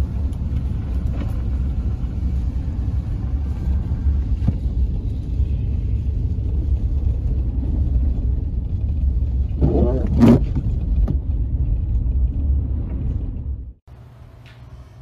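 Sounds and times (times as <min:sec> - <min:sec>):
car interior road rumble: 0:00.0 - 0:13.9.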